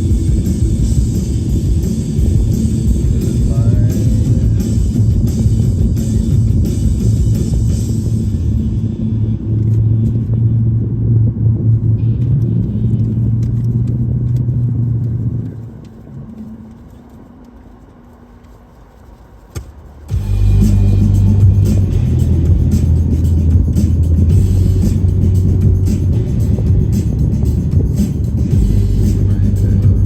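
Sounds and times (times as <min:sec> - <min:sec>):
low mechanical rumble with hum: 0:00.0 - 0:30.0.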